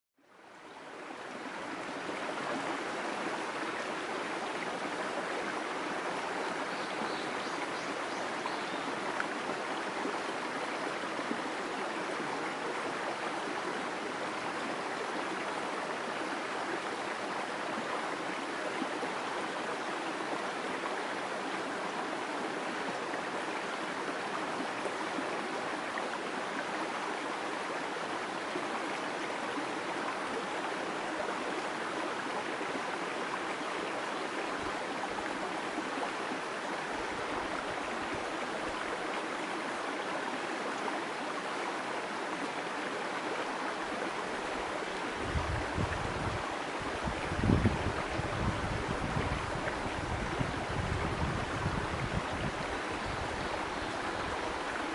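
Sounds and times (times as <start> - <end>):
stream babbling over rocks: 0.3 - 54.9.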